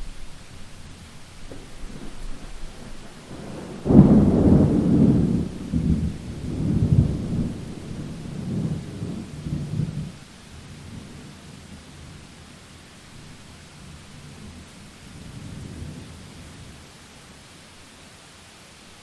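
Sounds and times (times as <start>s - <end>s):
thunder rumbling: 0.0s - 12.2s, 13.2s - 16.9s
heavy rain hiss: 0.0s - 19.0s.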